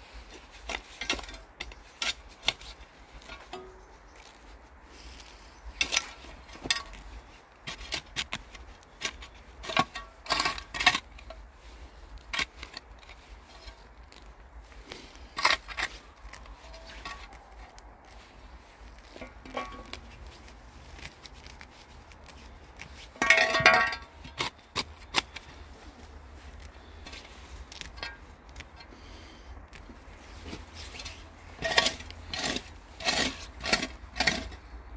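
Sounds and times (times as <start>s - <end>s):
trowel scraping gritty soil: 0.0s - 34.9s.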